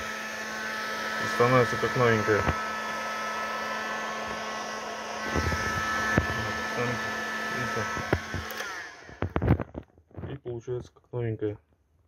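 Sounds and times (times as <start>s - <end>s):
heat gun blowing: 0.0s - 9.7s.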